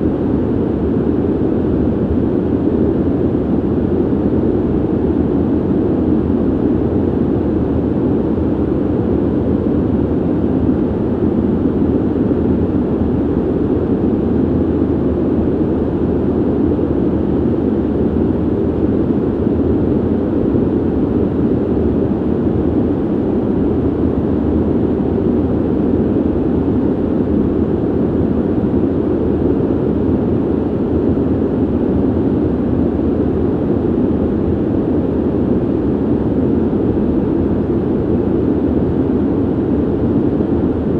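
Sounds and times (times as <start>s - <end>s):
ventilation air rush: 0.0s - 40.9s.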